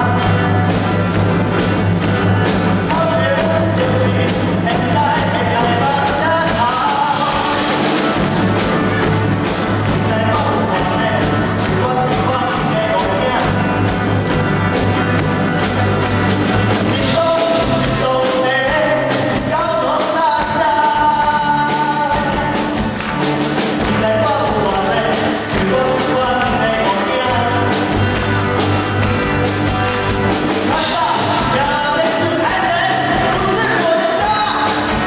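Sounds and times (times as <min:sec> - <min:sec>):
man singing: 0:00.0 - 0:00.8, 0:02.4 - 0:08.6, 0:09.7 - 0:14.3, 0:16.6 - 0:29.0, 0:29.6 - 0:35.0
live rock band playing: 0:00.0 - 0:35.0.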